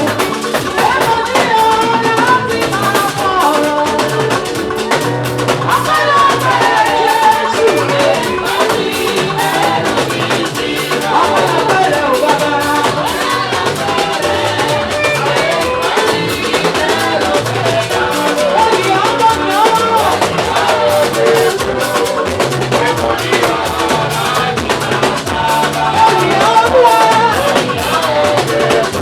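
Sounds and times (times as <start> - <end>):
drum kit beat: 0.0 - 29.0
gospel praise band playing: 0.0 - 29.0
stepping bass line: 0.0 - 29.0.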